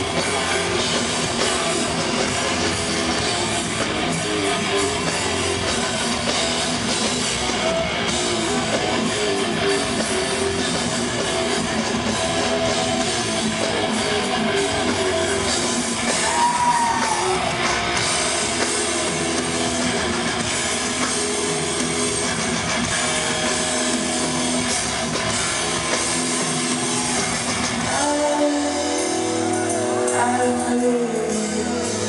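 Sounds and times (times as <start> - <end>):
drum kit: 0.0 - 32.0
electric guitars: 0.0 - 32.0.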